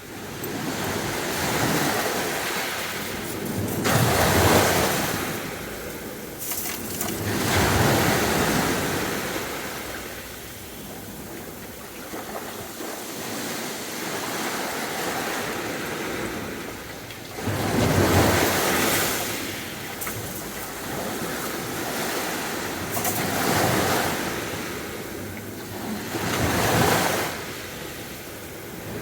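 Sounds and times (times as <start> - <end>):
sea waves breaking on a beach: 0.0 - 29.0.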